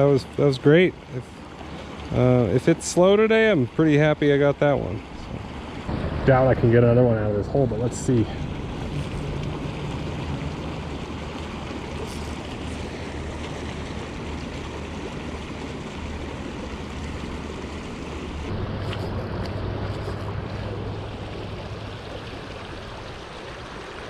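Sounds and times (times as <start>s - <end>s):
creek running over rocks: 0.0s - 24.0s.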